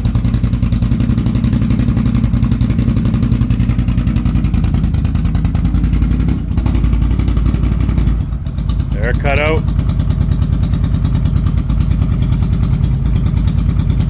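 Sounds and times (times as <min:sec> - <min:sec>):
v-twin engine running with misfire: 0:00.0 - 0:14.0.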